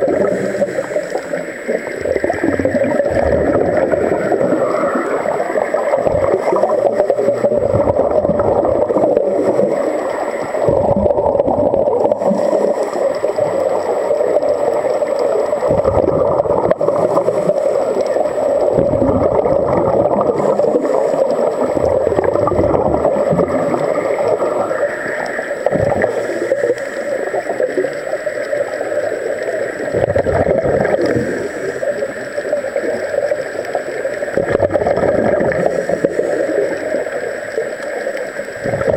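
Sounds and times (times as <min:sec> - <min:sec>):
scuba exhaust bubbles gurgling: 0:00.0 - 0:38.9
steady underwater drone: 0:00.0 - 0:38.9.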